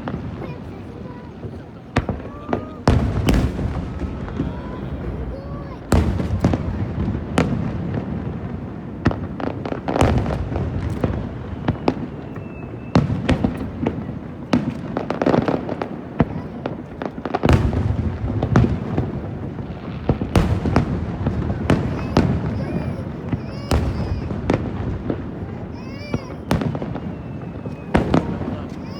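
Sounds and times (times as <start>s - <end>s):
fireworks bursting: 0.0s - 28.9s.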